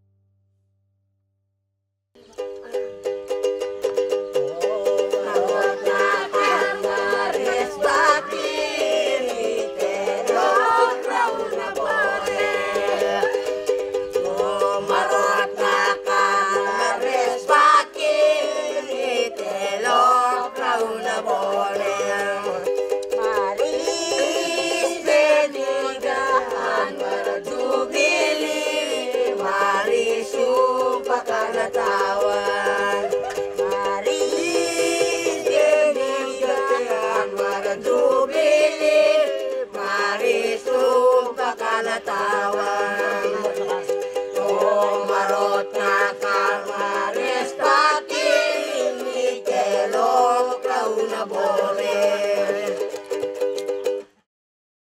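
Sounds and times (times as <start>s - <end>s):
plucked string notes: 2.2s - 54.2s.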